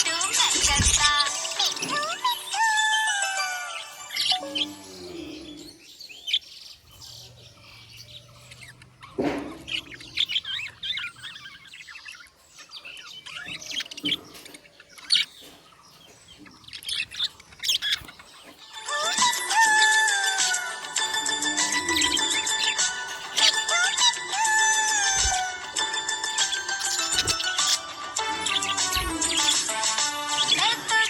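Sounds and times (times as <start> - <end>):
budgerigars chirping: 0.0 - 31.0.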